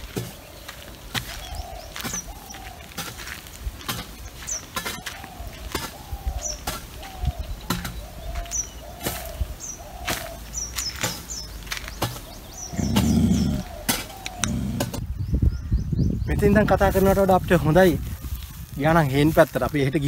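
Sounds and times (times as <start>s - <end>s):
footsteps on dry ground: 0.0s - 15.0s, 16.3s - 20.0s.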